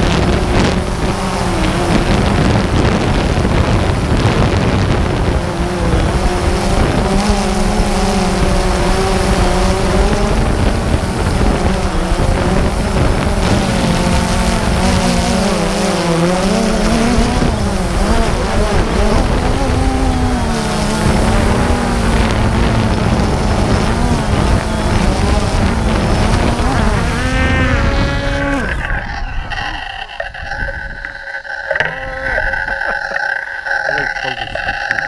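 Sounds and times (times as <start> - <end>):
drone propellers whirring: 0.0 - 35.0.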